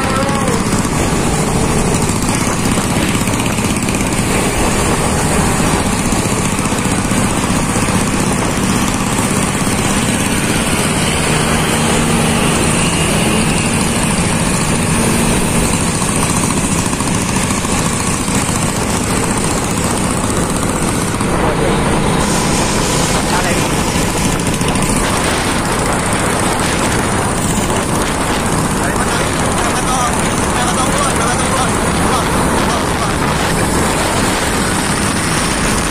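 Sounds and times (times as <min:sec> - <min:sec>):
motorcycle engines running: 0:00.0 - 0:35.9
wind noise on microphone: 0:00.0 - 0:35.9.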